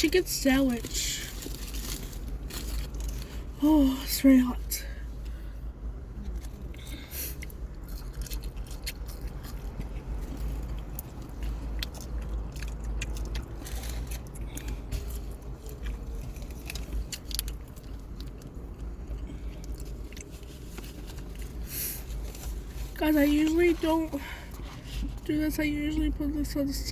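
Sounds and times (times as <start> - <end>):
food packaging crinkling and rustling: 0.0 - 3.6, 6.2 - 25.3
steady low hum: 0.0 - 26.9.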